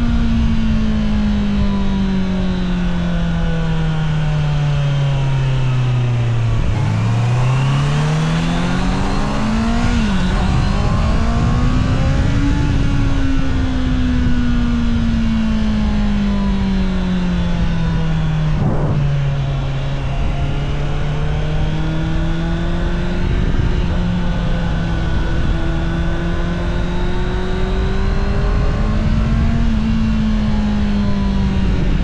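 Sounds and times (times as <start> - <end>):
wind noise: 0.0 - 32.0
motorcycle engine revving: 0.2 - 32.0.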